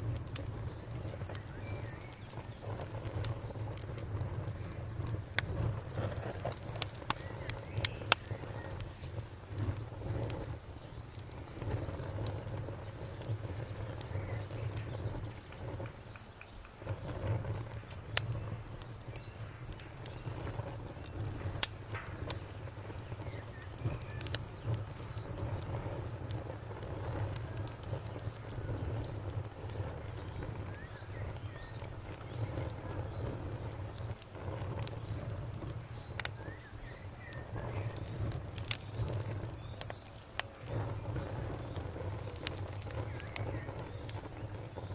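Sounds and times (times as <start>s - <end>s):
cricket chirping: 0.0s - 44.9s
fire crackling and popping: 0.0s - 44.9s.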